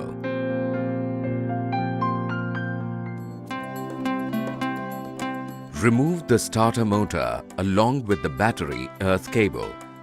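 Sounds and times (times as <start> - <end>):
soft piano melody: 0.0 - 10.0.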